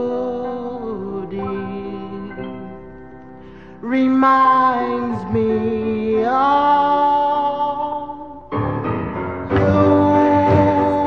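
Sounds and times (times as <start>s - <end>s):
slow oldies ballad music: 0.0s - 11.0s.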